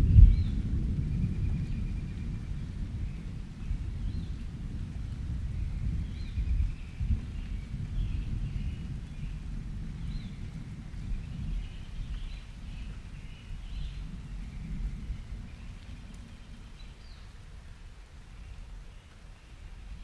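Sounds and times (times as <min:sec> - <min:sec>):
distant thunder rumbling: 0:00.0 - 0:17.3.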